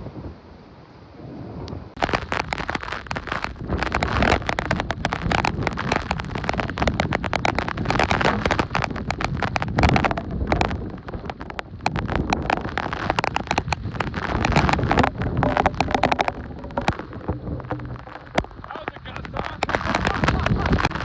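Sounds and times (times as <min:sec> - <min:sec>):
wind buffeting microphone: 0:01.2 - 0:21.0
crackling hits: 0:02.0 - 0:21.0.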